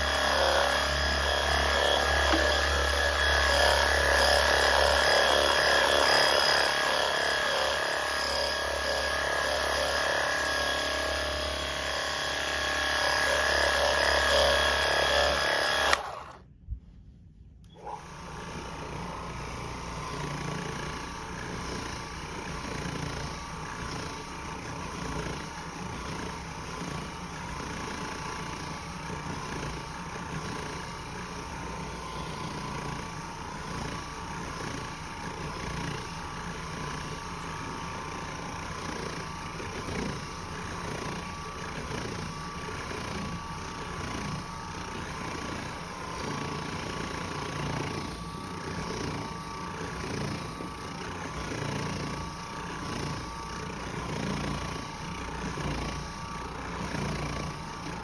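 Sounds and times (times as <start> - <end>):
floor machine scrubbing carpet: 0.0 - 16.4, 17.8 - 58.0.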